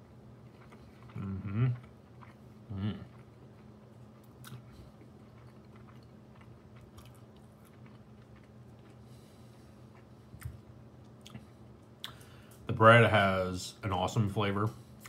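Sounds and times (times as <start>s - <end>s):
man chewing food: 0.0s - 12.7s
steady low hum: 0.0s - 15.0s.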